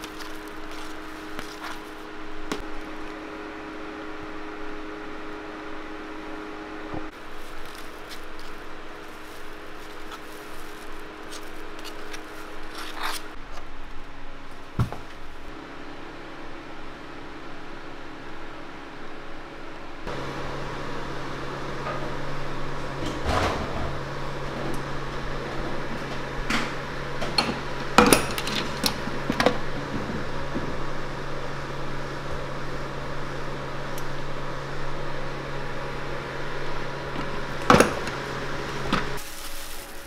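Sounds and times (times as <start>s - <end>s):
steady electrical hum: 0.0s - 40.0s.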